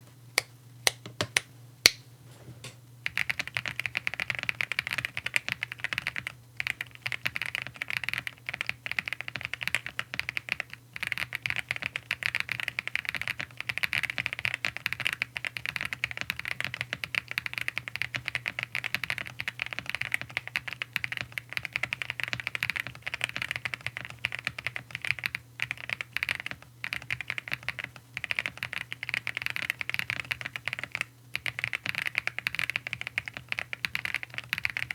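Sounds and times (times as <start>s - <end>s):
mechanical keyboard typing: 3.0s - 34.9s.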